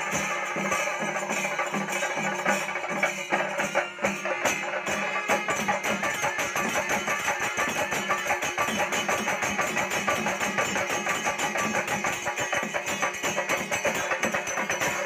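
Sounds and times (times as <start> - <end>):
hand-struck drums: 0.0 - 15.0
ringing cymbals: 0.0 - 15.0.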